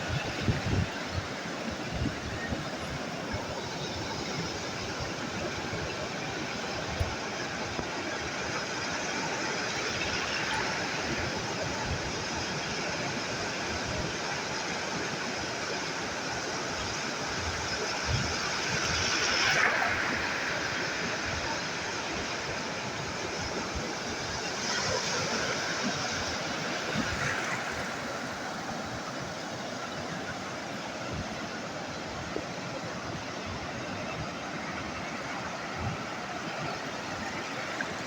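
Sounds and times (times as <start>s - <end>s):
sea waves washing ashore: 0.0s - 38.0s.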